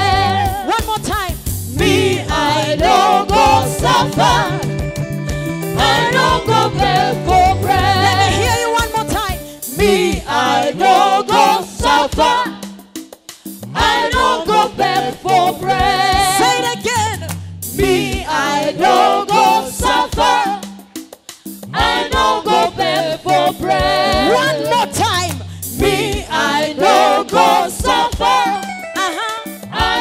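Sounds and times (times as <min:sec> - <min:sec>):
gospel singing with instruments: 0:00.0 - 0:30.0.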